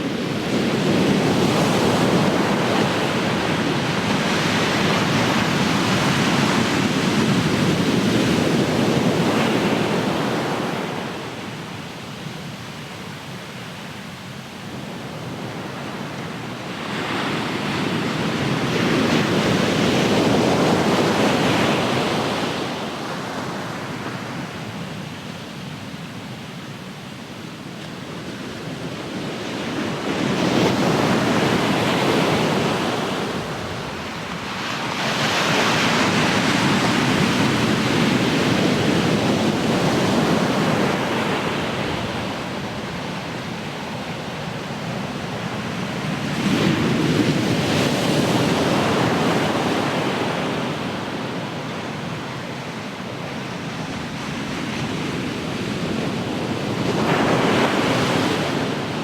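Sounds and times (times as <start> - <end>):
waves breaking and washing in: 0.0 - 59.0.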